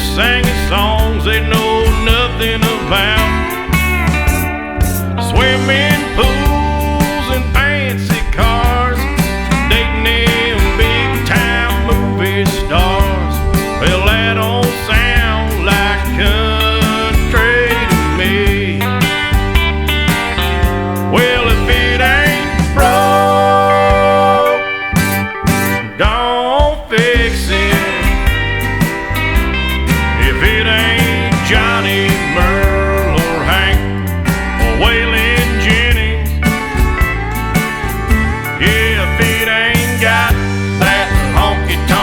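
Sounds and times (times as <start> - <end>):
country music with guitars and drums: 0.0 - 42.0.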